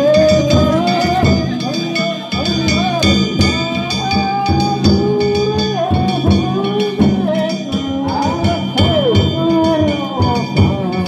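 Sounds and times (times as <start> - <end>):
drum beats: 0.0 - 11.0
small hand gongs ringing: 0.0 - 11.0
wavering melody line: 0.0 - 11.0.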